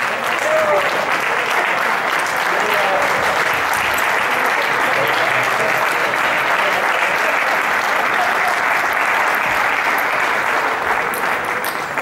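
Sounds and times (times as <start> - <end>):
spectators applauding: 0.0 - 12.0.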